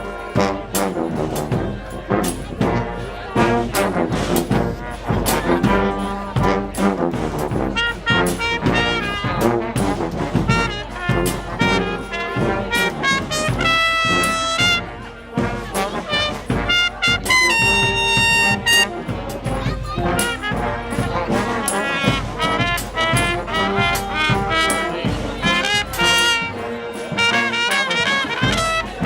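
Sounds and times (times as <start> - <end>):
brass band playing: 0.0 - 29.0.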